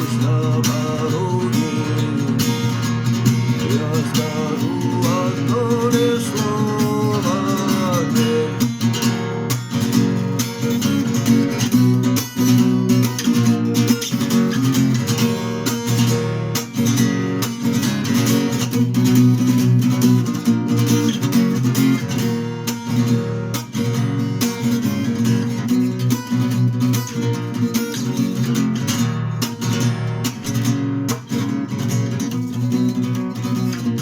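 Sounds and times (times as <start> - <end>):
strummed acoustic guitar: 0.0 - 34.0.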